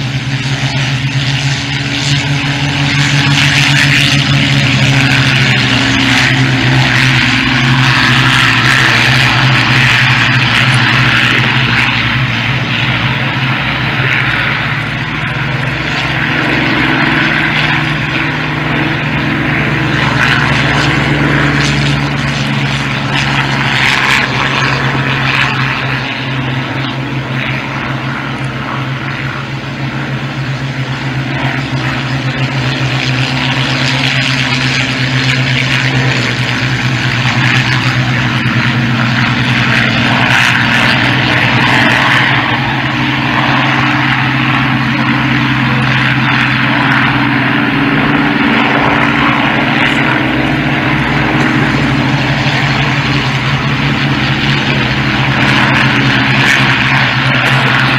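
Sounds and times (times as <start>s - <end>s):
fighter plane engines droning: 0.0s - 57.9s.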